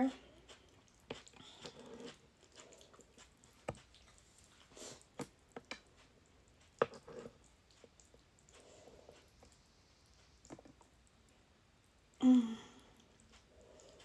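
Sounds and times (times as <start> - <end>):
wet chewing of noodles: 0.0 - 14.0.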